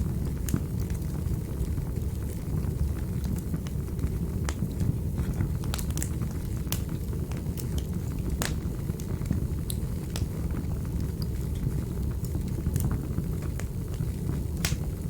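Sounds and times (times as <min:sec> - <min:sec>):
fire burning in fireplace: 0:00.0 - 0:15.0.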